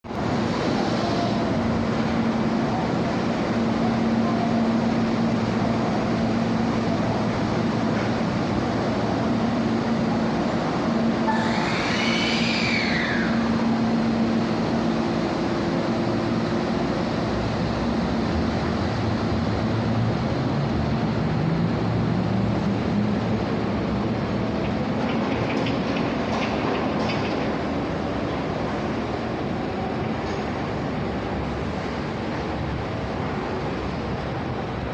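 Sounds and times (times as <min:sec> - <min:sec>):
train wheels and motors rumbling: 0:00.0 - 0:34.9.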